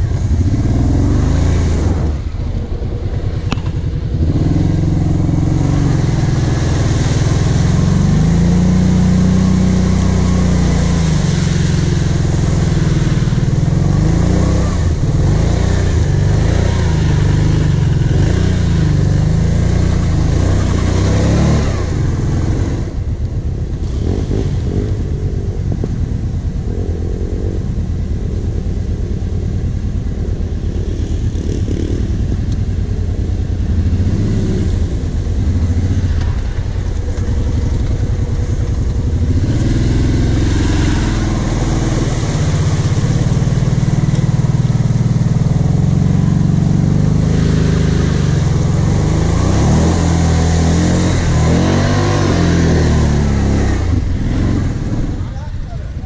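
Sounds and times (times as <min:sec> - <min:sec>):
quad bike engine revving: 0:00.0 - 0:23.2, 0:23.8 - 0:56.0.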